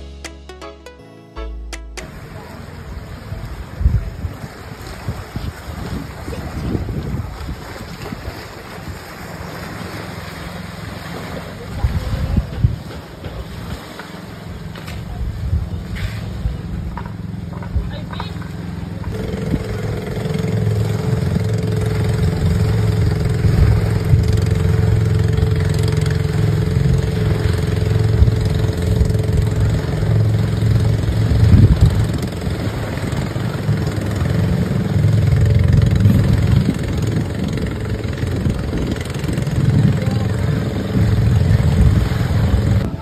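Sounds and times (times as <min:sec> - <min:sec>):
boat engine droning: 0:01.4 - 0:43.0
wind rumble on microphone: 0:02.9 - 0:10.0, 0:11.2 - 0:18.2, 0:19.0 - 0:43.0.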